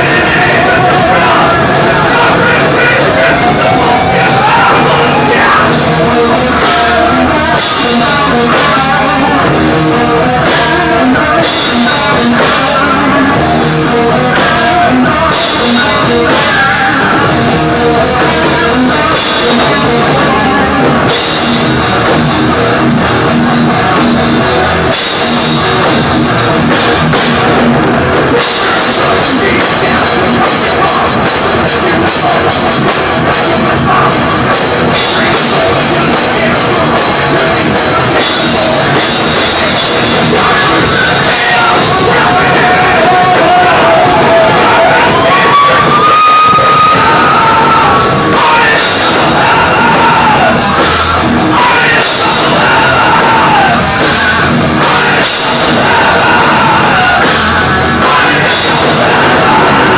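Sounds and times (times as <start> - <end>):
drum kit with cymbals: 0.0 - 59.9
electric guitars: 0.0 - 59.9.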